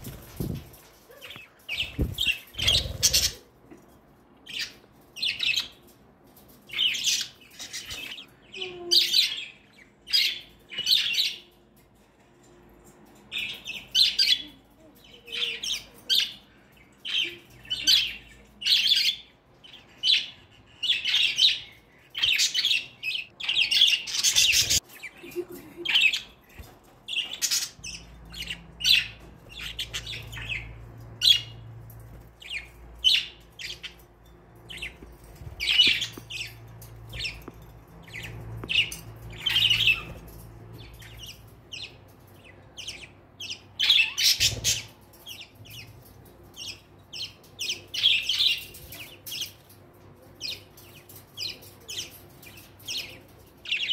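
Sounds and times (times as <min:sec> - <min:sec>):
budgerigars chirping and squawking: 0:00.0 - 0:03.5, 0:04.4 - 0:11.5, 0:13.3 - 0:53.9.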